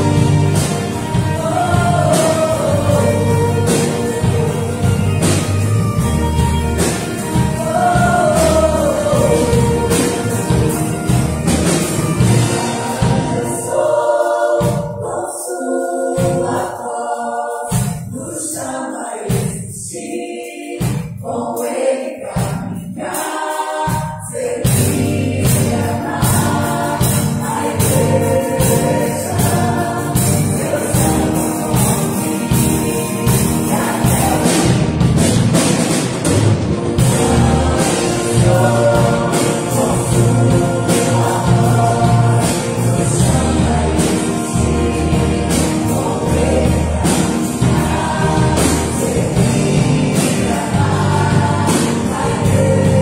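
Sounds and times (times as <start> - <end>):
band with bass drums and piano: 0.0 - 16.9, 17.6 - 18.6, 22.2 - 53.0
choir singing in parts: 0.0 - 53.0.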